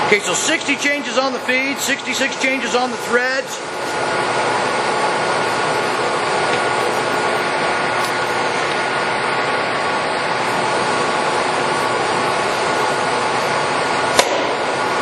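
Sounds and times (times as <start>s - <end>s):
high gear whine: 0.0s - 15.0s
lathe mechanical drone: 0.0s - 15.0s.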